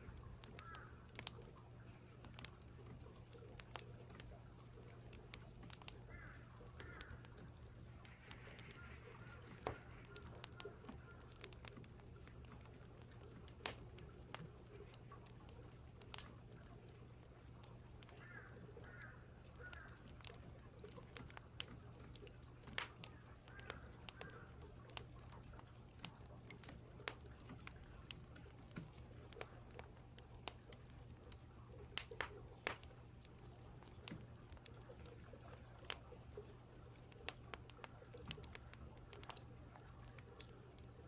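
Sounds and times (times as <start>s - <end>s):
crackling firewood: 0.0s - 41.0s
low steady hum: 0.0s - 41.0s.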